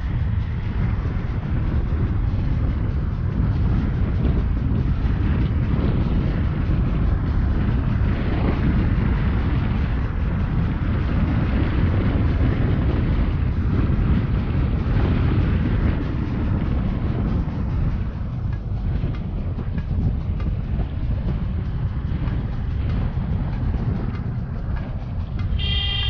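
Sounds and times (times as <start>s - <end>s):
vehicle driving on dirt road: 0.0s - 26.0s
wind buffeting microphone: 0.0s - 26.0s.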